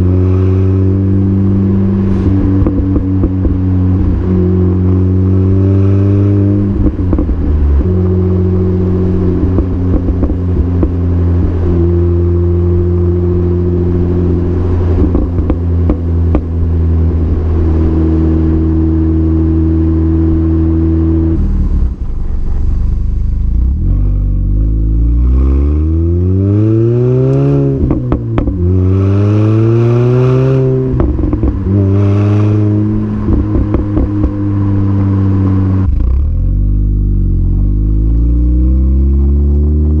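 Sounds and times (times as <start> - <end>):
car engine and exhaust droning: 0.0 - 40.0.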